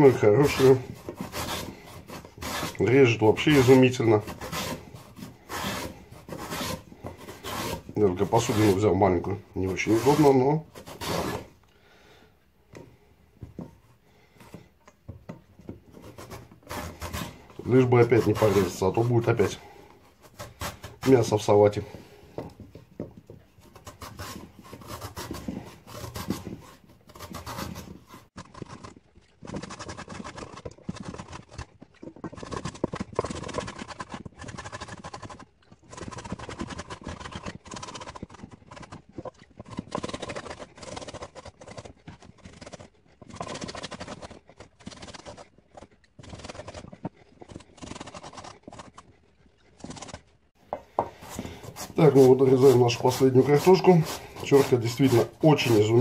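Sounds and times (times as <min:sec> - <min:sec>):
potato scraping on grater: 0:00.0 - 0:11.6, 0:15.8 - 0:22.3, 0:23.6 - 0:50.2, 0:51.1 - 0:56.0.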